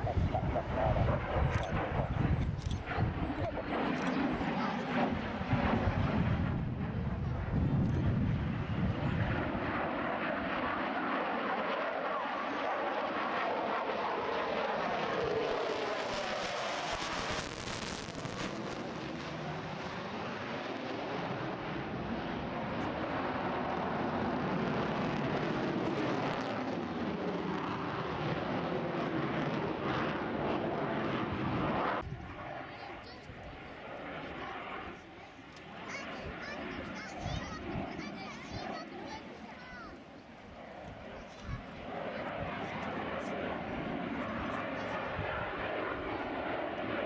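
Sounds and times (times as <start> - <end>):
aircraft engine rumble: 0.0 - 11.2, 17.7 - 47.0.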